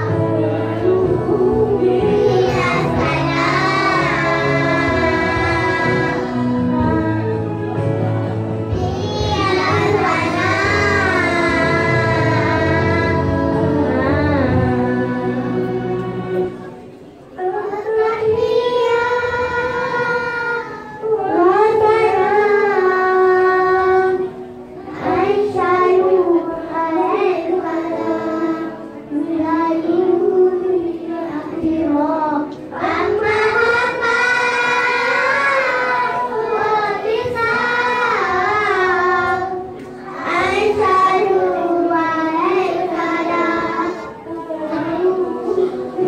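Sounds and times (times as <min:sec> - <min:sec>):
child singing: 0:00.0 - 0:07.4, 0:08.7 - 0:15.8, 0:17.4 - 0:46.0
instrumental backing music: 0:00.0 - 0:46.0.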